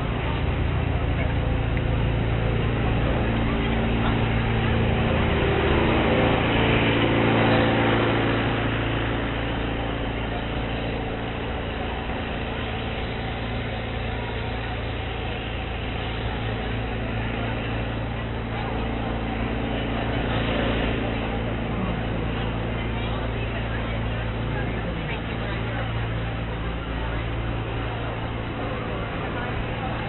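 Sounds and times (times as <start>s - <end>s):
crowd hubbub: 0.0s - 30.0s
low mechanical hum: 0.0s - 30.0s.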